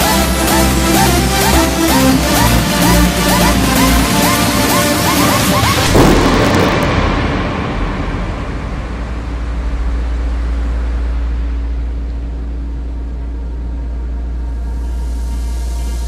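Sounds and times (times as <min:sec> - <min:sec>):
low rumble: 0:02.0 - 0:16.0.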